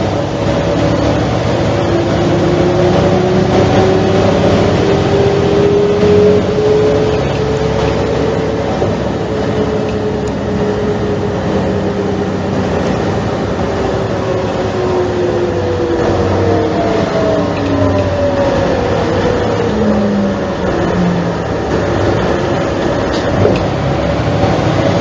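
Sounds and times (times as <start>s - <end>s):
diesel bus engine drone: 0.0s - 25.0s
drivetrain whine: 0.0s - 25.0s.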